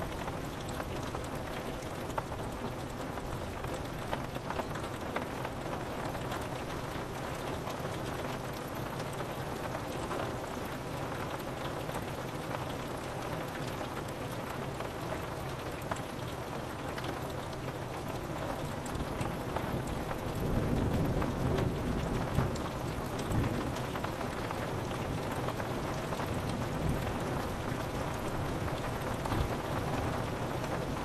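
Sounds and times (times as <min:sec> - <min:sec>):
rain on window glass: 0:00.0 - 0:31.0.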